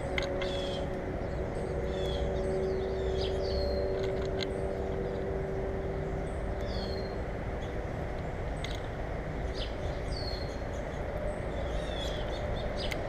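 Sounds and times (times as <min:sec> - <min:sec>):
low mechanical drone: 0:00.0 - 0:13.0
small birds chirping: 0:00.0 - 0:13.0.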